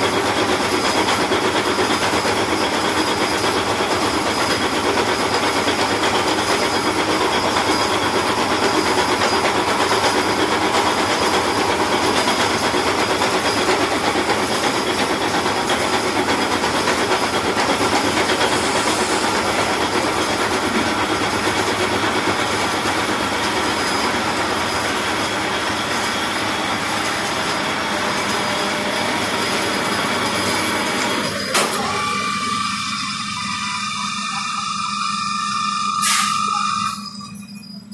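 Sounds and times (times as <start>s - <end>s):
milling machine cutting metal: 0.0s - 37.2s.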